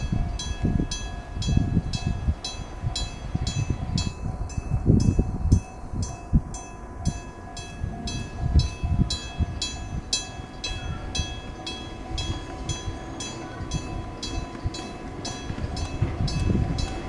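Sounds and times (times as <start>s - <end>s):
train warning alarm beeping: 0.0s - 17.0s.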